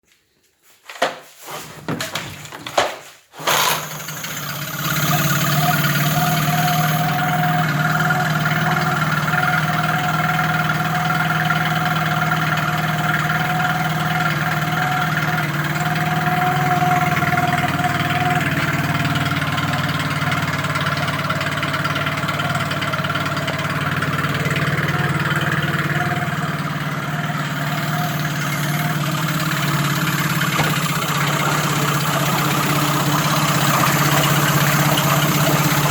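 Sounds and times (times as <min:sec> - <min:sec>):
outboard motor starting and idling: 0:01.9 - 0:35.9.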